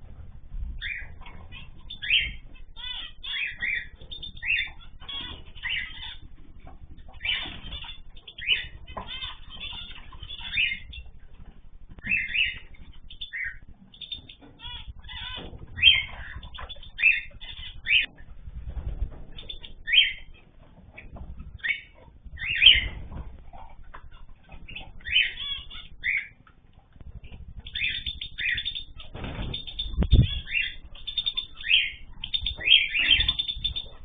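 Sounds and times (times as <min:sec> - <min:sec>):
cage birds chirping: 0:00.0 - 0:34.0.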